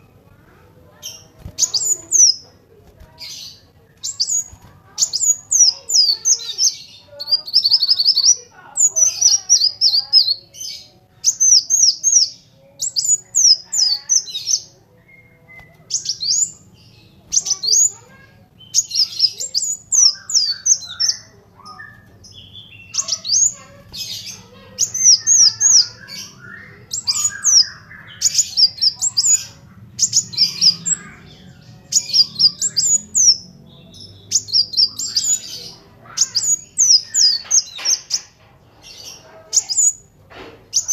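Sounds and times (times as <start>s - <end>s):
bird chirps and twitters: 0.0s - 40.9s.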